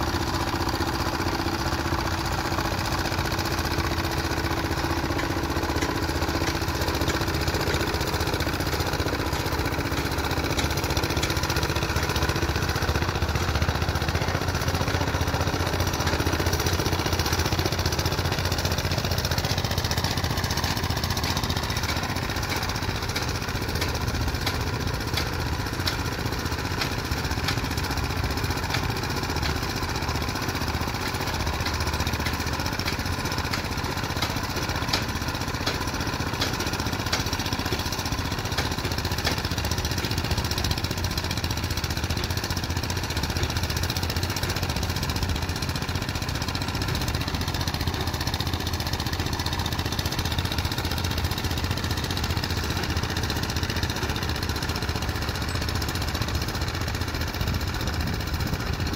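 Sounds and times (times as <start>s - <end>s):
plate compactor engine running: 0.0s - 58.9s
plate rattling pound on dirt: 0.1s - 58.9s.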